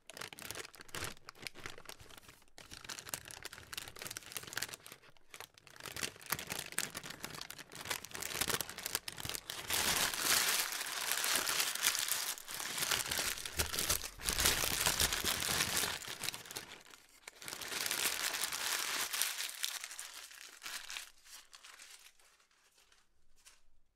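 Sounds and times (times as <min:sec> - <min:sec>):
paper being crumpled: 0:00.1 - 0:23.8.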